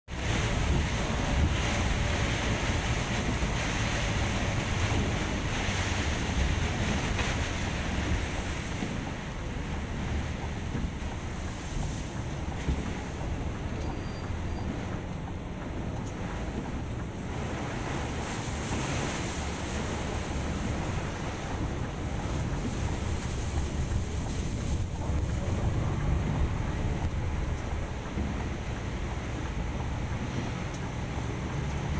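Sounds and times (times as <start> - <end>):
bus rumble and tyres on wet road: 0.0 - 31.9
heavy rain on a bus: 0.0 - 31.9.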